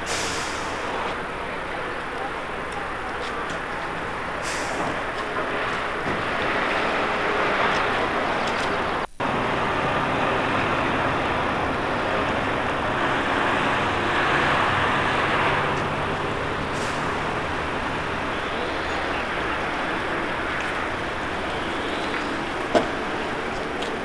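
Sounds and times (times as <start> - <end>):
diesel truck engine running: 0.0 - 24.0
outdoor noise hiss: 0.0 - 24.0.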